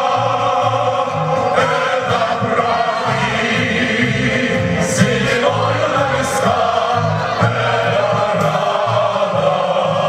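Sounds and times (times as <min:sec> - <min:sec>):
band accompaniment: 0:00.0 - 0:10.0
male choir singing in harmony: 0:00.0 - 0:10.0.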